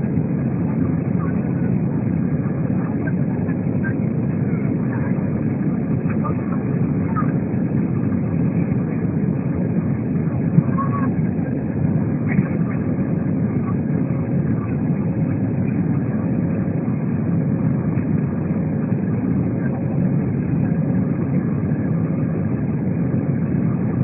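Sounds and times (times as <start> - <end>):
airplane engine rumble in cabin: 0.0 - 24.0
faint steady hum: 0.0 - 24.0.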